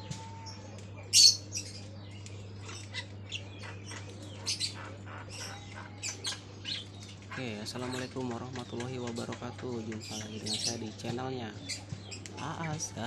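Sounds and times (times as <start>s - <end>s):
myna chirping and squawking: 0.0s - 13.0s.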